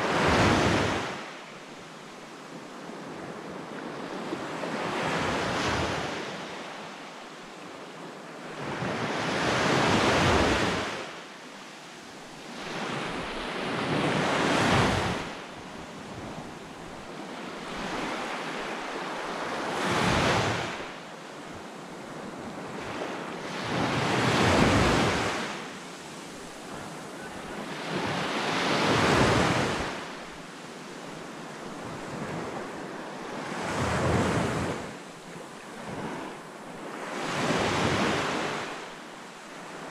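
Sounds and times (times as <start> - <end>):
small waves washing up a beach: 0.0 - 39.9.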